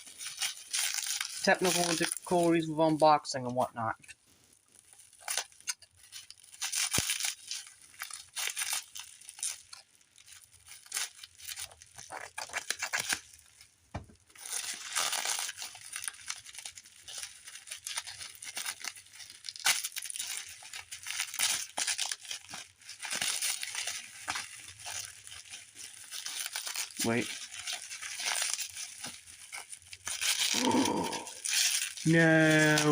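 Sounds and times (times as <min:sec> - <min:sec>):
packaging ripping and rustling: 0:00.0 - 0:03.1, 0:04.4 - 0:32.9.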